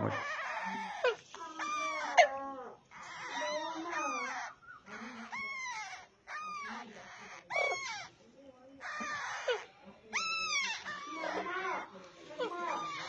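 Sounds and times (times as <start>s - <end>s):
parakeet chicks begging cries: 0.0s - 13.0s.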